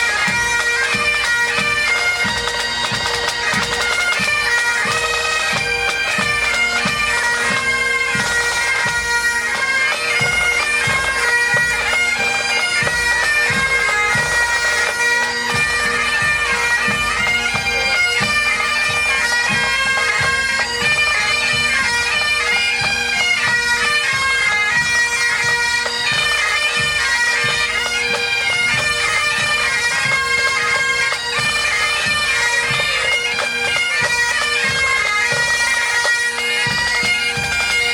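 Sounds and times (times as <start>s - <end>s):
bagpipe playing a tune: 0.0s - 37.9s
drum beating steady rhythm: 0.0s - 37.9s.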